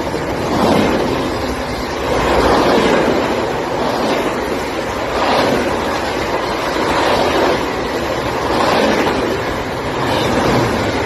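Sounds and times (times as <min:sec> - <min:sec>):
passenger train rushing past: 0:00.0 - 0:11.0.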